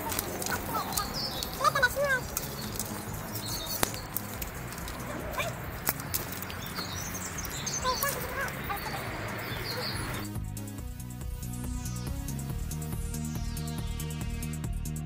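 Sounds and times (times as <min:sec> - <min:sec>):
birds chirping: 0:00.0 - 0:14.5.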